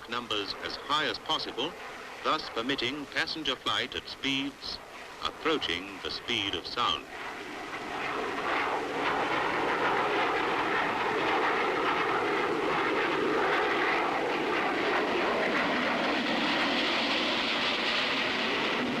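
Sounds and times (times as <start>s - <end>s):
aircraft engines rushing: 0.0s - 19.0s.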